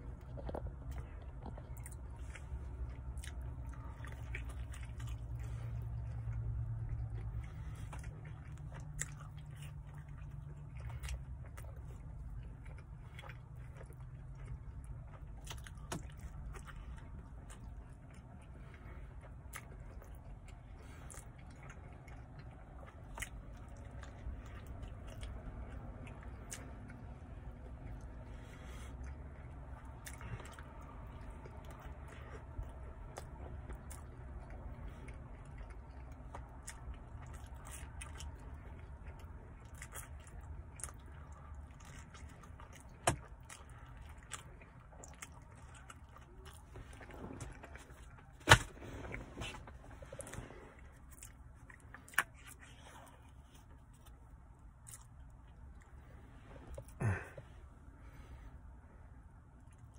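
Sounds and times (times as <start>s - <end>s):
chewing pizza crust: 0.0s - 59.9s
low rumble: 0.0s - 59.9s.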